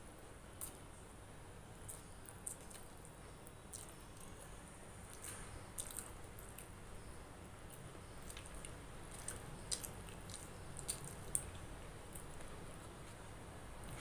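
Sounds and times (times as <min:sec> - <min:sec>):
person chewing tomato: 0:01.8 - 0:06.8, 0:07.6 - 0:14.0.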